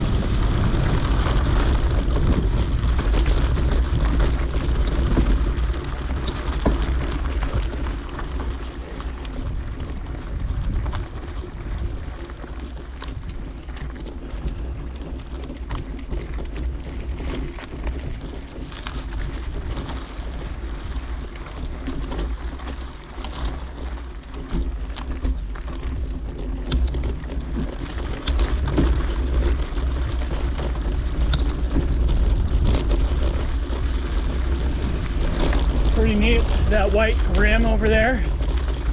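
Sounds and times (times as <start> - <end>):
bike clicks and rattles: 0.0 - 38.9
tyre noise on dirt track: 0.0 - 38.9
wind rumbling on microphone: 0.0 - 38.9.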